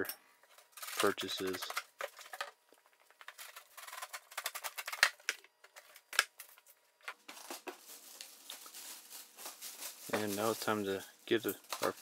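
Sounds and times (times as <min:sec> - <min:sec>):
cardboard and plastic crackling: 0:00.6 - 0:12.0.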